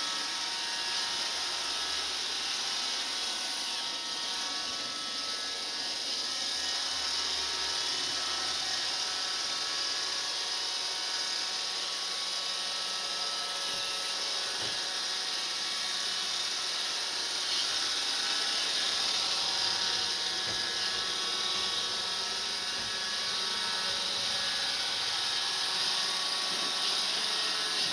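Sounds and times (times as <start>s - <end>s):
robot vacuum cleaner whirring: 0.0s - 27.9s.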